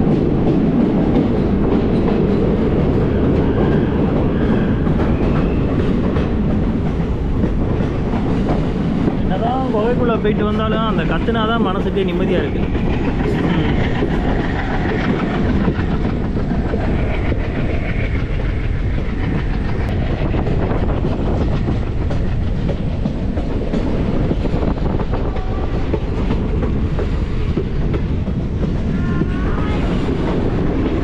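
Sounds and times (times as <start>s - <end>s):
train wheels clickety-clack: 0.0s - 31.0s.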